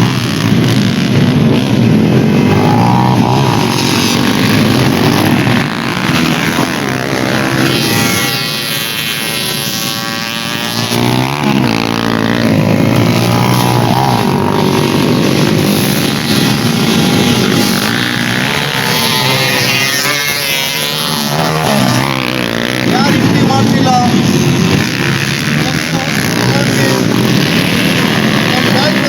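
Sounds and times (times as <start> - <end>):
dirt bike engines revving: 0.0 - 29.0
dirt bike passing close: 0.0 - 29.0.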